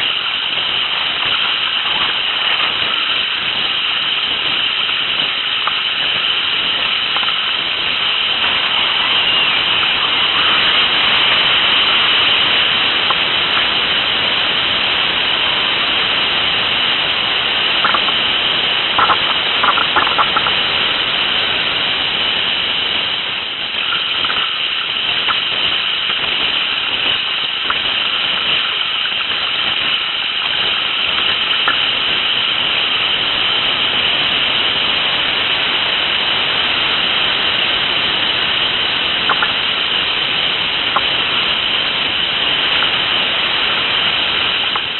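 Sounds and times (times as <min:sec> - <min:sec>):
rapids rushing over rocks: 0:00.0 - 0:44.9.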